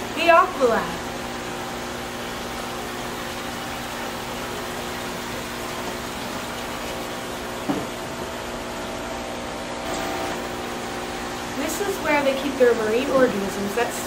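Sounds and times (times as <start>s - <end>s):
pumps and filters humming: 0.0s - 14.0s
water flowing: 0.0s - 14.0s.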